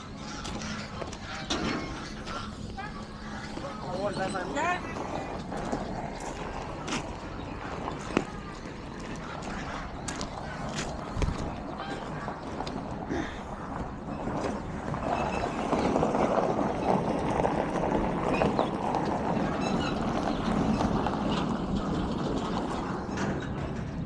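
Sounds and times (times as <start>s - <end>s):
vehicle running and rattling: 0.0s - 24.0s.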